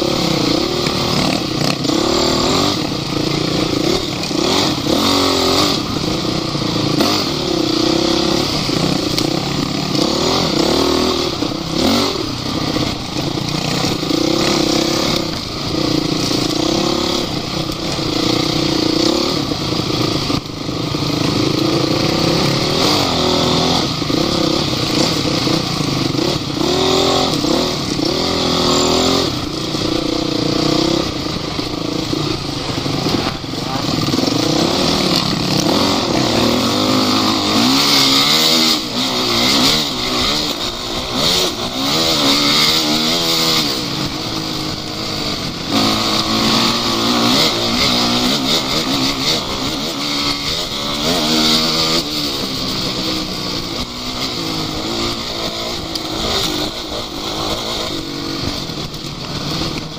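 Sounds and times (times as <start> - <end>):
off-road vehicle engines revving: 0.0 - 59.9.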